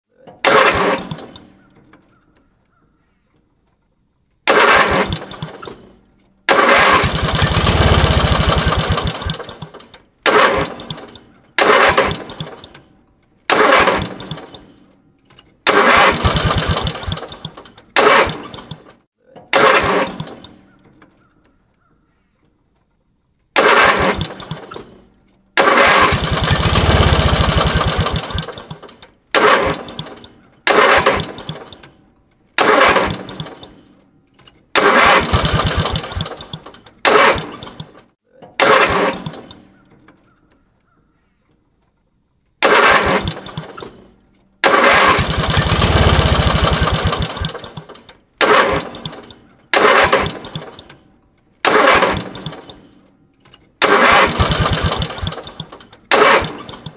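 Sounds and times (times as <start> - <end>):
engine cranking failing to start: 0.1 - 1.6, 4.4 - 20.7, 23.5 - 39.8, 42.6 - 56.9.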